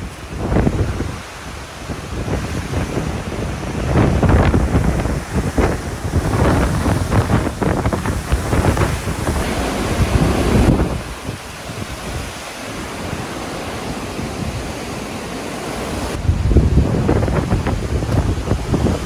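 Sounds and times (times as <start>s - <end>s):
strong wind gusts buffeting microphone: 0.0s - 19.0s.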